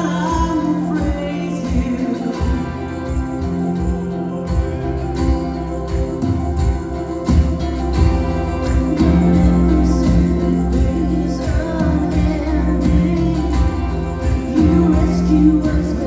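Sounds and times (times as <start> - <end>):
band playing gospel music: 0.0 - 16.0
low bass notes: 0.0 - 16.0.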